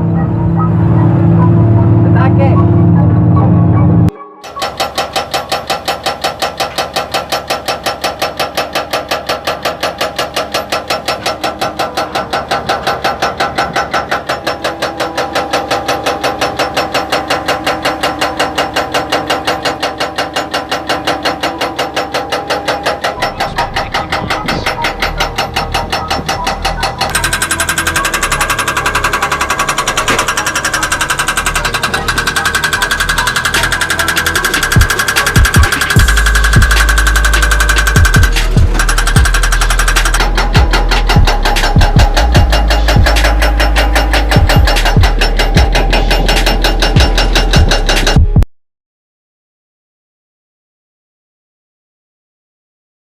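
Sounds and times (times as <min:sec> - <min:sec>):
hydraulic breaker hammering: 0:04.4 - 0:48.4.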